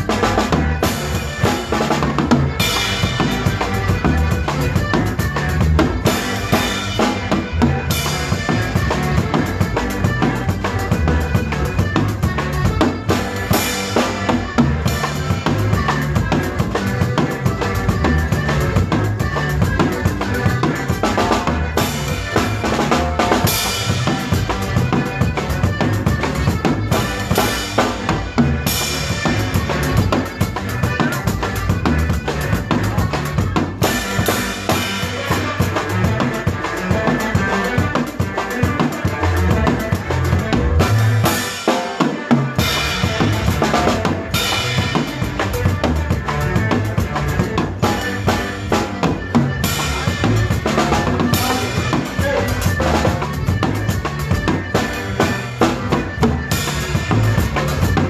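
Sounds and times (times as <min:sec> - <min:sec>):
drum kit dance beat: 0:00.0 - 0:58.0
live band playing: 0:00.0 - 0:58.0.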